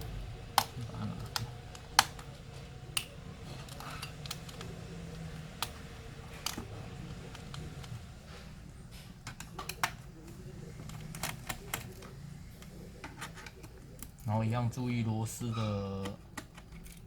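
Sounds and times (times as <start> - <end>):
small parts and screwdriver clicking: 0.0 - 8.1, 9.2 - 14.3, 16.0 - 17.0.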